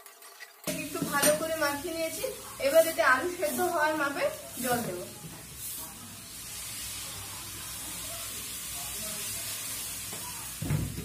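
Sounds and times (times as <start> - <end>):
water poured into hot pan: 0.0 - 11.0
pan hissing and sizzling: 0.6 - 11.0.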